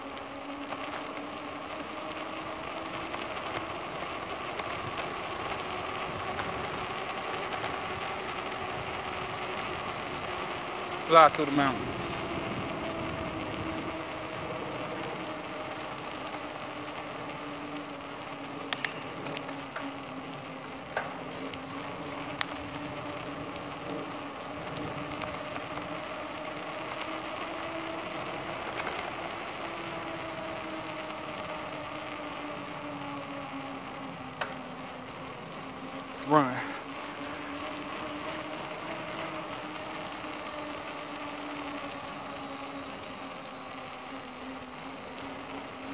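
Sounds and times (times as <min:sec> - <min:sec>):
bicycle tyres rolling on pavement: 0:00.0 - 0:45.9.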